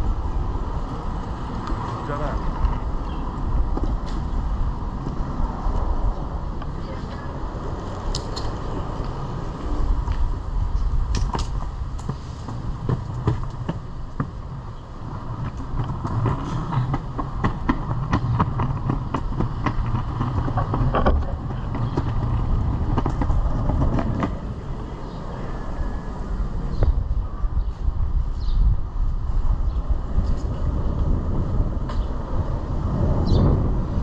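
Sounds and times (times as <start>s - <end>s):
longboard wheels rumbling: 0.0s - 34.0s.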